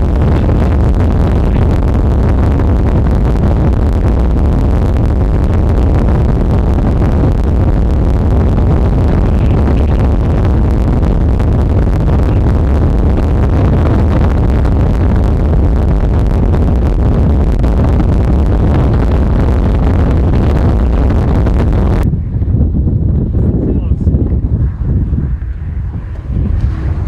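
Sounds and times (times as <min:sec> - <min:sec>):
strong wind on microphone: 0:00.0 - 0:27.0.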